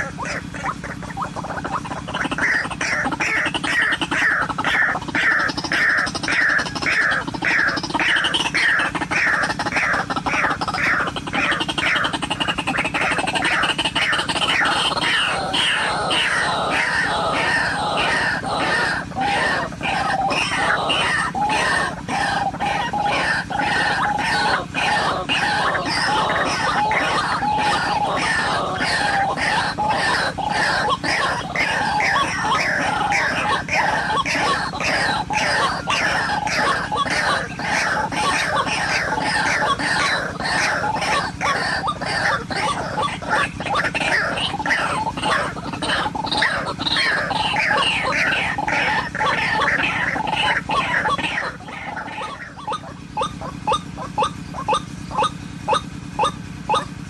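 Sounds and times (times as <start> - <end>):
steady low hum: 0.0 - 57.0
waterhen calling: 0.0 - 57.0.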